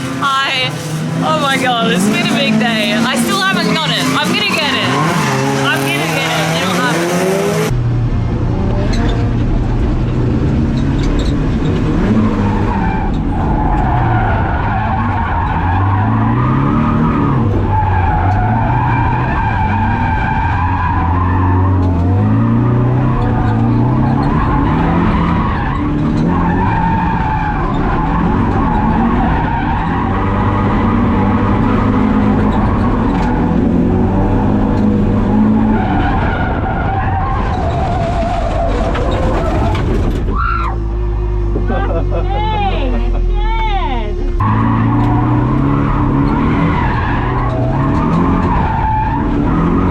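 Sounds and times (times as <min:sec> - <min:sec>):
car engine revving: 0:00.0 - 0:49.9
tyres skidding: 0:00.0 - 0:49.9.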